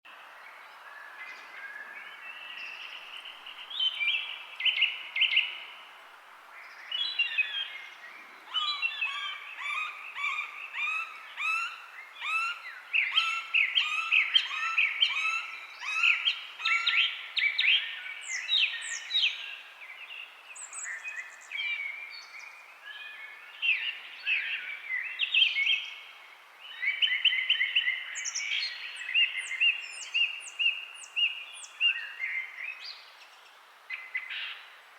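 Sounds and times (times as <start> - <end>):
faint background hiss: 0.1 - 34.9
birds singing: 6.6 - 34.8.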